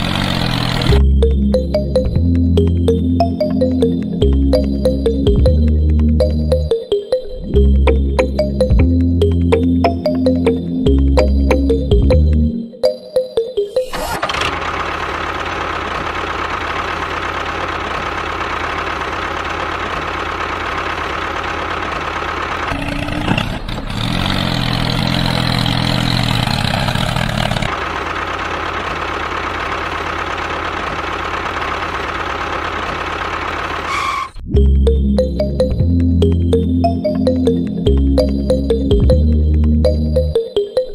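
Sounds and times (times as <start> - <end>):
engine running: 0.0 - 13.0, 13.8 - 40.4.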